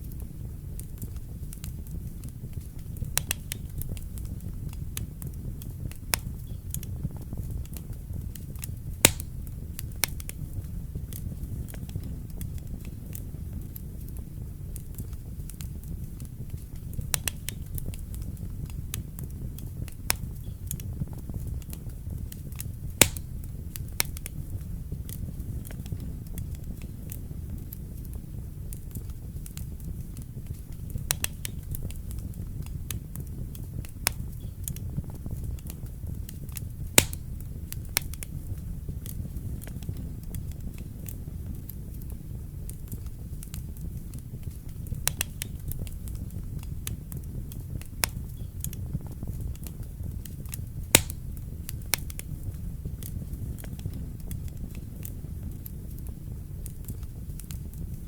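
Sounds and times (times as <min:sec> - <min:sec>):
sharp pops from fire: 0:00.0 - 0:58.0
wood fire crackling: 0:00.0 - 0:58.0.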